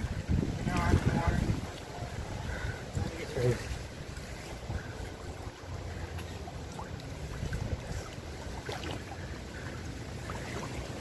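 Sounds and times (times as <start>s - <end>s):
water sloshing and splashing: 0.0s - 11.0s
wind buffeting microphone: 0.0s - 11.0s.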